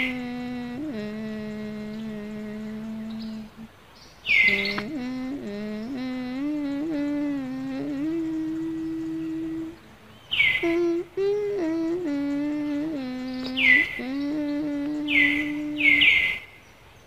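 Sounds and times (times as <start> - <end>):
person humming a slow tune: 0.0 - 16.4.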